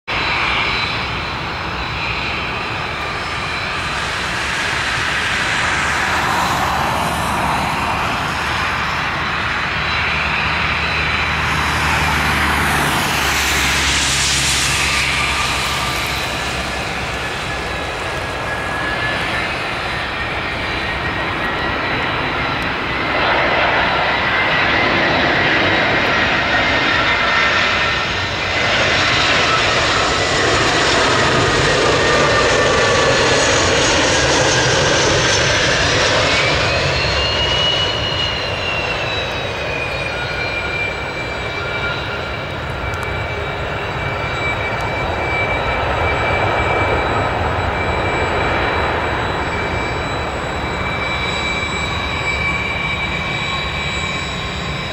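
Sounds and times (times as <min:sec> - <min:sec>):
jet engines rushing and whining: 0:00.0 - 0:54.9.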